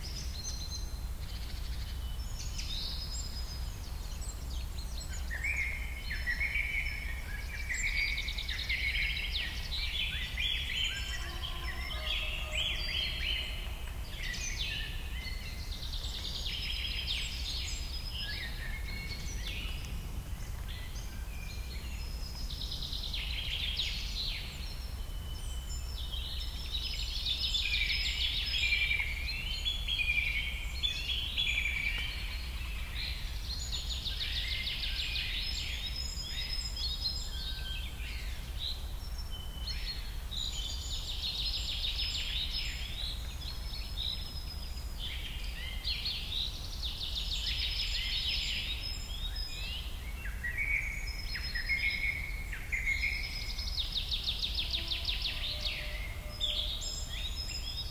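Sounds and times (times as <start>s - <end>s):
birds chirping and singing: 0.0s - 57.9s.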